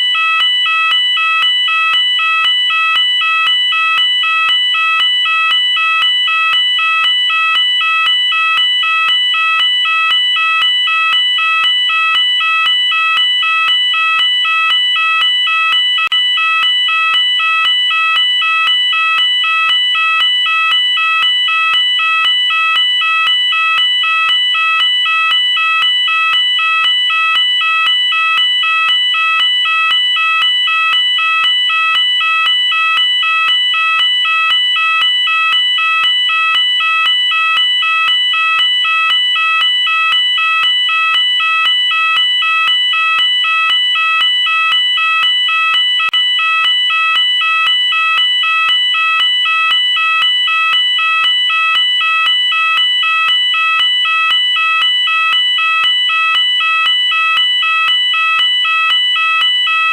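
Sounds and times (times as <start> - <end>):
two-tone fire alarm sounder: 0.0 - 59.9.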